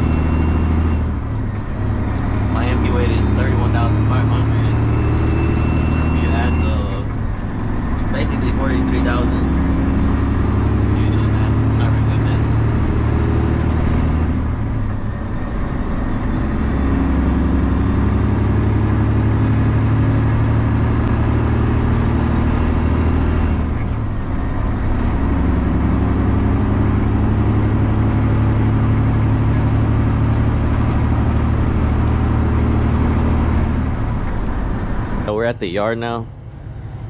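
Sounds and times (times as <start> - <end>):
diesel truck engine driving: 0.0 - 37.0.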